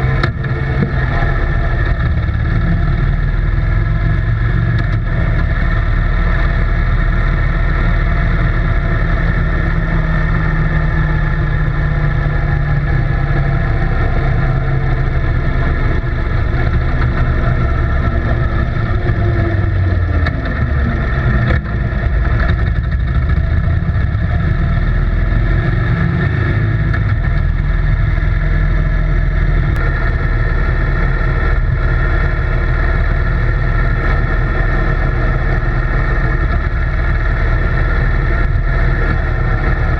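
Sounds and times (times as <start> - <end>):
motor running with low rumble: 0.0 - 39.9.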